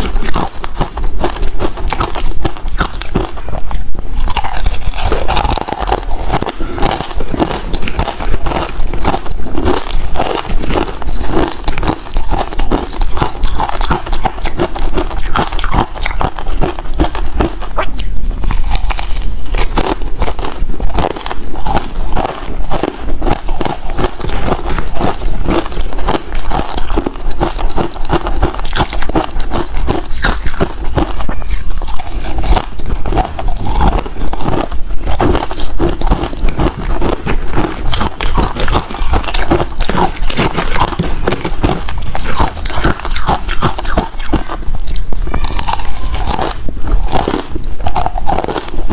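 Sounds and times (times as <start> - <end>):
ice crunching being chewed: 0.0 - 48.9.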